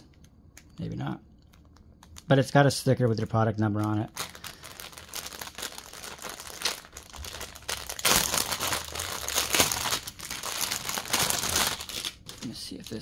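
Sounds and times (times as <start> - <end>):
plastic bag crinkling: 0.1 - 13.0.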